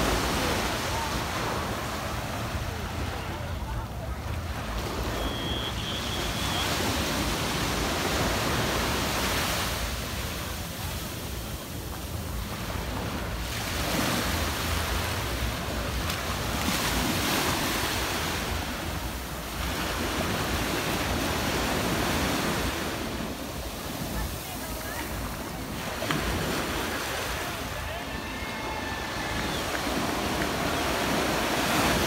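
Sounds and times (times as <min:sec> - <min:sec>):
surf breaking on beach: 0:00.0 - 0:11.9, 0:12.5 - 0:32.0.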